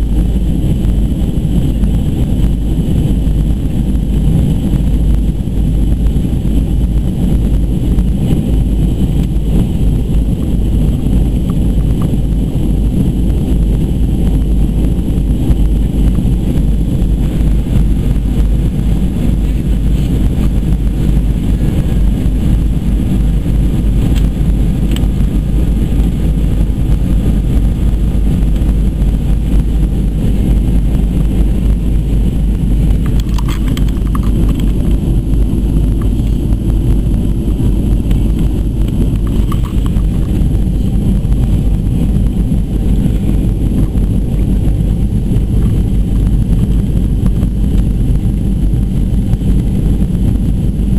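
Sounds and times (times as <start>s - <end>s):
airplane cabin engine noise: 0.0s - 50.9s.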